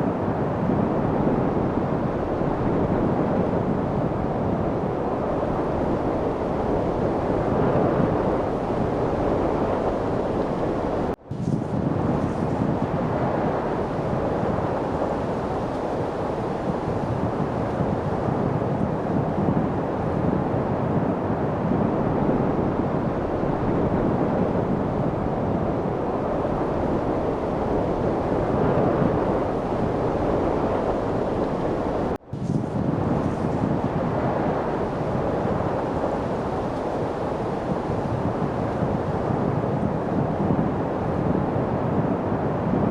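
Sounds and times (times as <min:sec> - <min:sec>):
light wind noise: 0:00.0 - 0:42.9.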